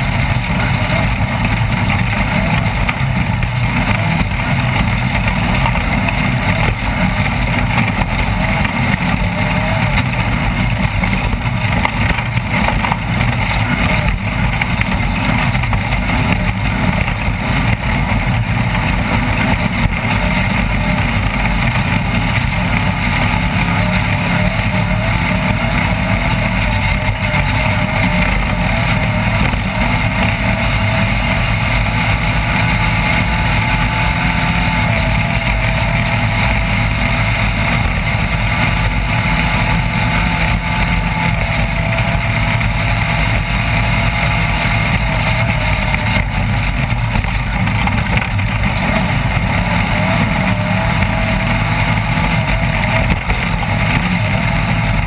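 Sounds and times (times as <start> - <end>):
constant noise: 0.0 - 55.0
race car engine running: 0.0 - 55.0.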